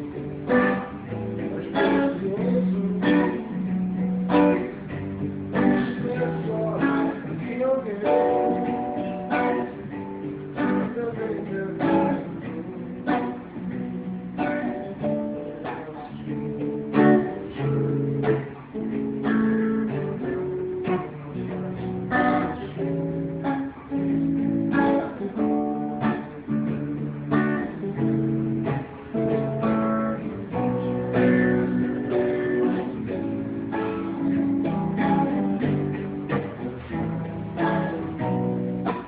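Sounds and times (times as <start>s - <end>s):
acoustic guitar strumming chords: 0.0s - 39.0s.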